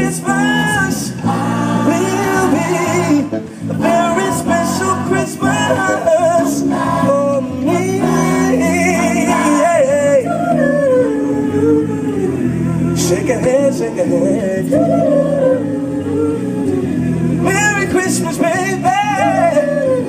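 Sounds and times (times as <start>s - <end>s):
vocal group singing in harmony: 0.0s - 20.0s.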